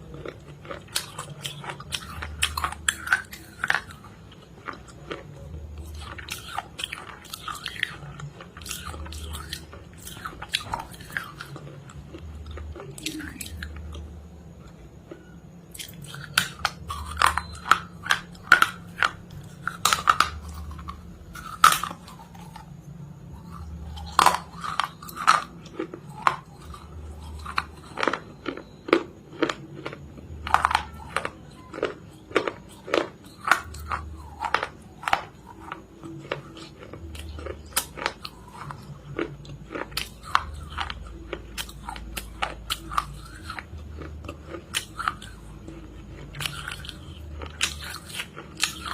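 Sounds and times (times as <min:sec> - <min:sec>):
person chewing crunchy food: 0:00.0 - 0:48.9.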